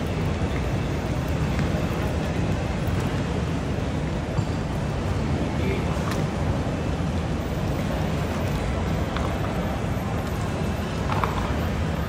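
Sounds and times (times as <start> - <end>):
low din of terminal hall: 0.0 - 12.0.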